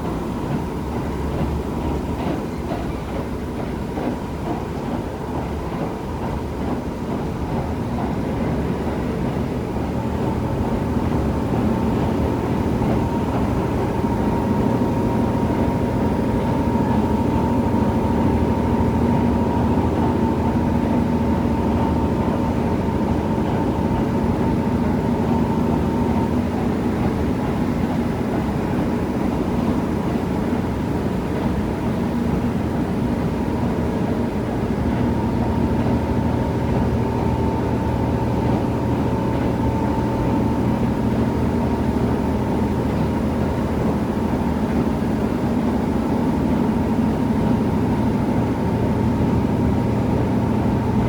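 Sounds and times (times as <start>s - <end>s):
railcar engine and wheels rumbling: 0.0s - 51.0s.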